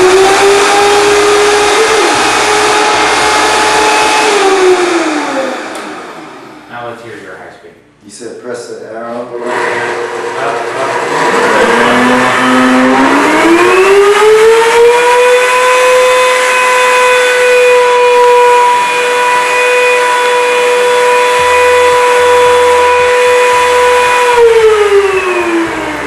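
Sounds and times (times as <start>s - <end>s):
blender motor whine: 0.0s - 6.6s, 9.3s - 26.0s.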